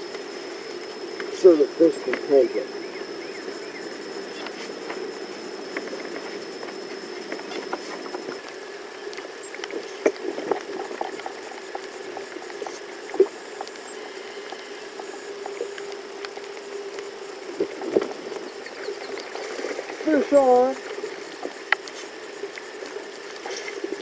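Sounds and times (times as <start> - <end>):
water lapping against boat hull: 2.9 - 24.0.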